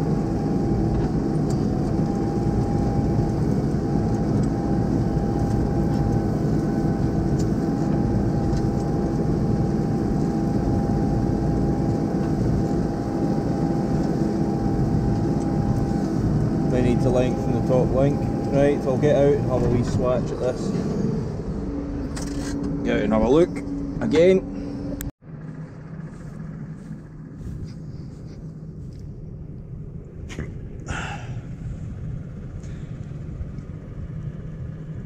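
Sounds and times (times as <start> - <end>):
faint steady whine: 0.0 - 35.0.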